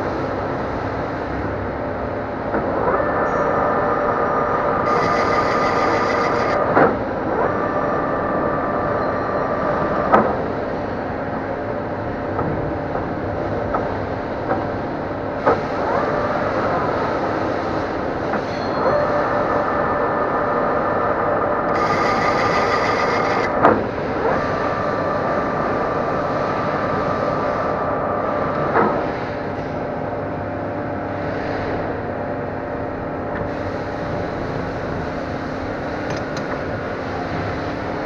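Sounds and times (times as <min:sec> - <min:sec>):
lathe gear whine and clatter: 0:00.0 - 0:38.0.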